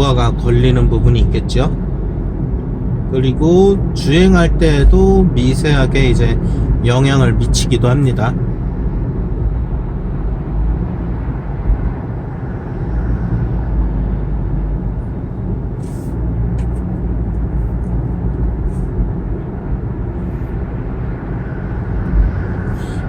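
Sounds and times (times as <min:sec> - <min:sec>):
road and engine rumble in car: 0:00.0 - 0:23.0.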